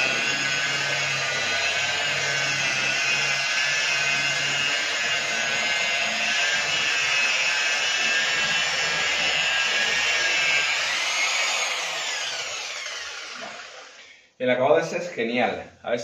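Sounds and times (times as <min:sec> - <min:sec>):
rotary polisher whine: 0:00.0 - 0:14.1.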